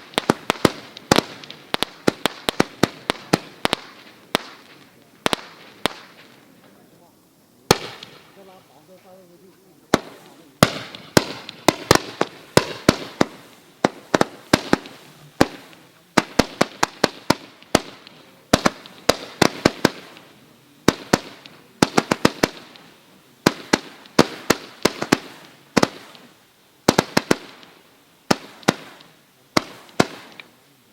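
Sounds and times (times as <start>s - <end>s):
firework bangs with echo: 0.0s - 6.9s, 7.6s - 8.7s, 9.9s - 30.6s.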